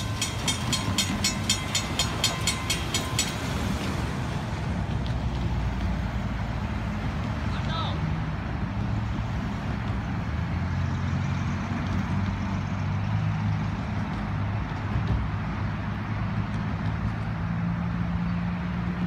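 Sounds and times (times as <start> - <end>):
freight train rumbling on track: 0.0 - 19.0.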